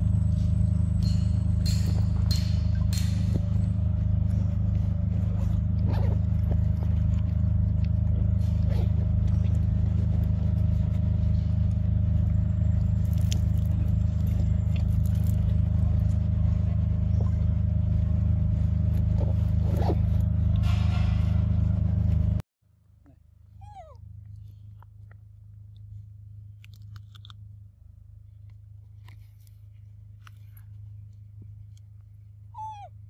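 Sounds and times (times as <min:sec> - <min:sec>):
steady low hum: 0:00.0 - 0:33.0
monkeys chewing fruit: 0:01.6 - 0:20.6, 0:23.8 - 0:27.6, 0:28.3 - 0:32.3.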